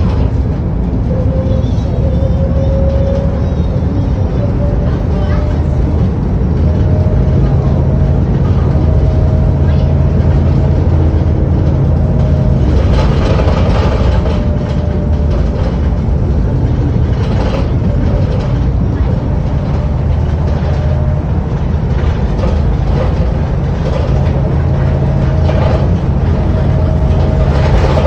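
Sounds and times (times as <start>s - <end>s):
bus diesel engine drone: 0.0s - 28.0s
road and body noise: 0.0s - 28.0s.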